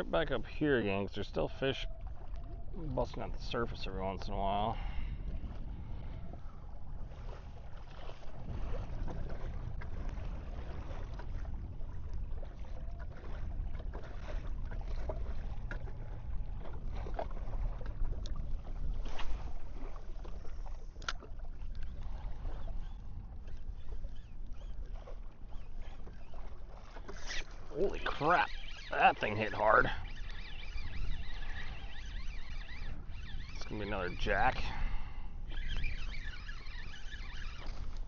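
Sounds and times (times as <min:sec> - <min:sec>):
water washing against hull: 0:00.0 - 0:38.0.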